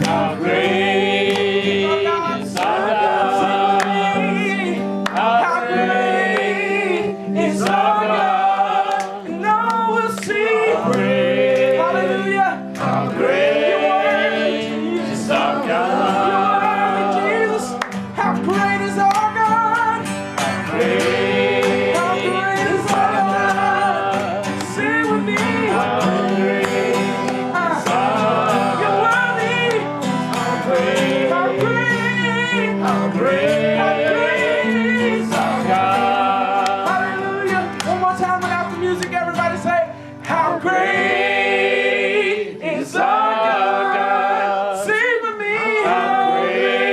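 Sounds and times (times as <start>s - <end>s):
group singing a praise song: 0.0s - 46.9s
guitar strumming chords: 0.0s - 46.9s.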